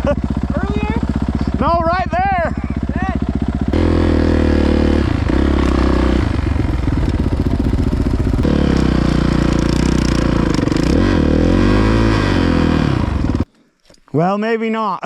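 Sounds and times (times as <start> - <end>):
dirt bike engine revving: 0.0 - 13.5.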